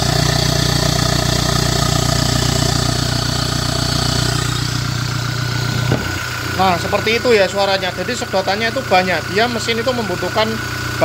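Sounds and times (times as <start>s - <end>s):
engine idling hum: 0.0s - 11.0s
rushing intake suck: 0.0s - 11.0s.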